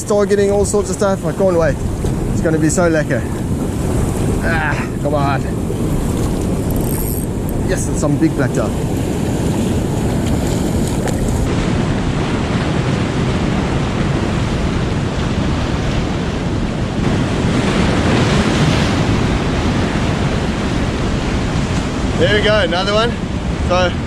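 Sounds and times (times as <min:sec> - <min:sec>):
surf washing into a gully: 0:00.0 - 0:24.0
wind buffeting the microphone: 0:00.0 - 0:24.0.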